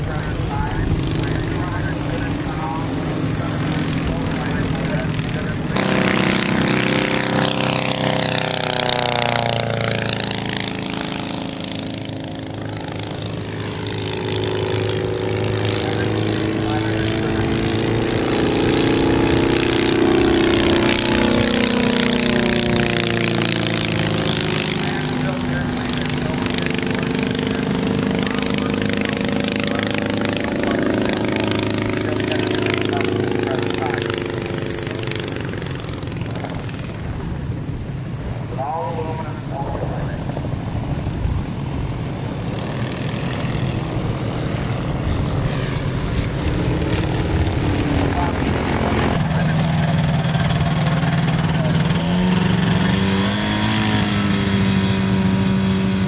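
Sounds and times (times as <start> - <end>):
ultralight plane passing overhead: 0.0 - 56.0.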